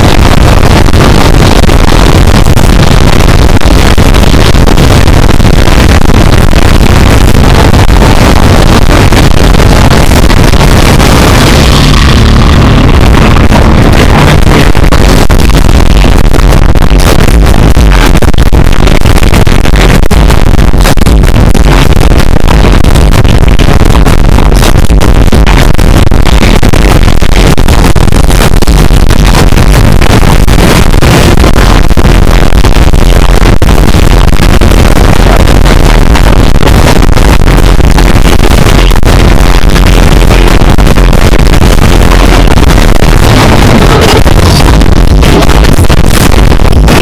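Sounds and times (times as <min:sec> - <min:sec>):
distorted loud music over loudspeakers: 0:00.0 - 0:47.0.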